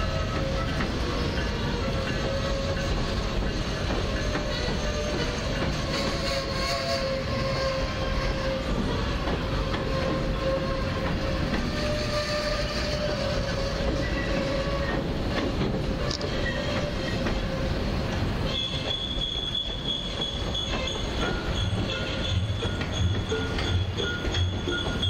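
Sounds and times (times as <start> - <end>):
train cars rolling on rails: 0.0 - 25.0
wheel squeal: 0.1 - 17.7, 18.4 - 25.0.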